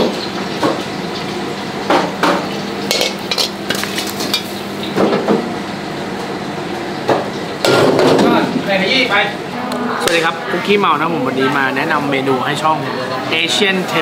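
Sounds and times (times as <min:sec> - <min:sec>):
kitchen hum: 0:00.0 - 0:14.0.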